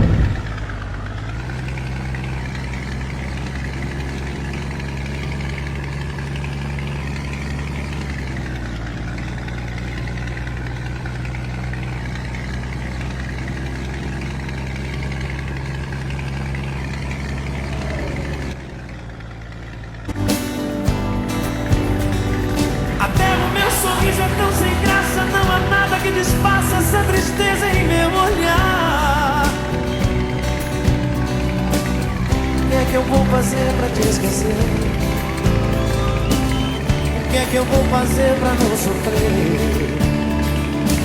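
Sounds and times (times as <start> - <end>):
truck diesel engine idling: 0.0 - 41.0.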